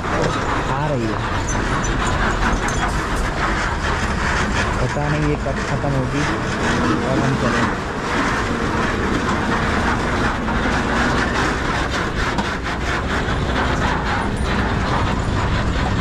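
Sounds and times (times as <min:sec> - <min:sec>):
rattling clatter: 0:00.0 - 0:16.0
trucks driving past: 0:00.0 - 0:16.0.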